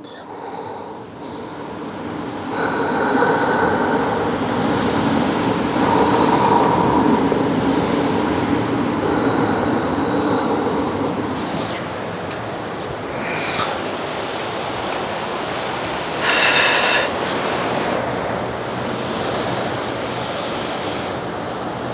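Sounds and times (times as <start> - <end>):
ocean surf rushing: 0.0 - 21.9.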